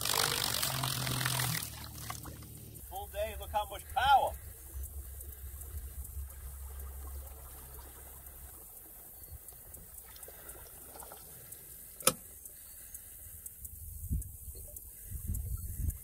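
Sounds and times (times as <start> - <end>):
water lapping and trickling: 0.0 - 13.5.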